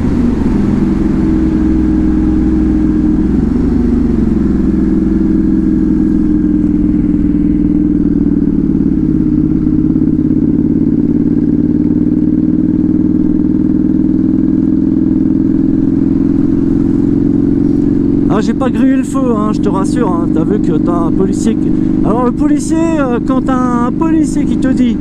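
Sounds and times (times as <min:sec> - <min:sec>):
motorcycle exhaust drone: 0:00.0 - 0:25.0.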